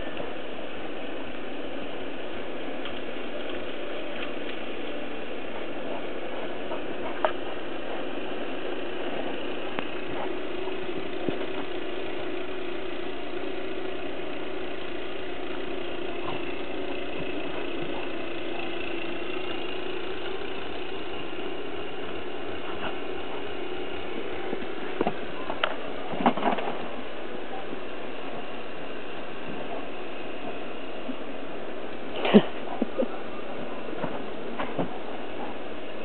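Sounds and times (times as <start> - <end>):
engine-like drone: 0.0 - 36.0.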